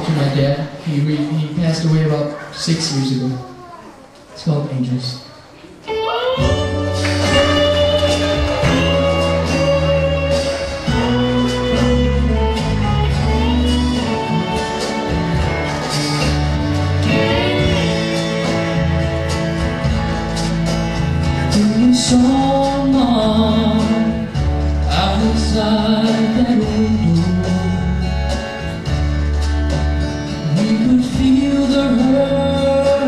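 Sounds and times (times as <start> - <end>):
slow country ballad: 5.9 - 33.0.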